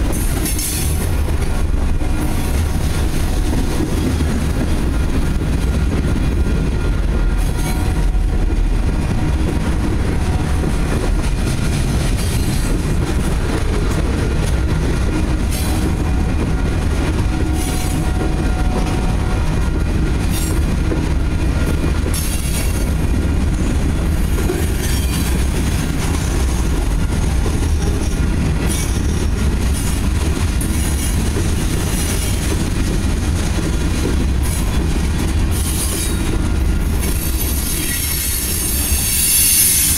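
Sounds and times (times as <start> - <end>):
freight train rumble and clatter: 0.0 - 39.9.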